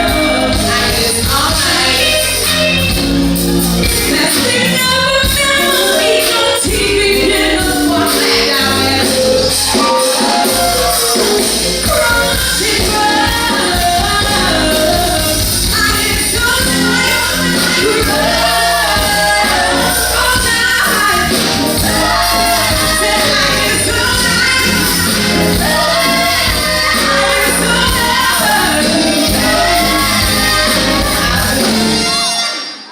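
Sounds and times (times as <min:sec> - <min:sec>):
lead singer: 0:00.0 - 0:32.9
live band music: 0:00.0 - 0:32.9
backing vocals: 0:04.1 - 0:32.1.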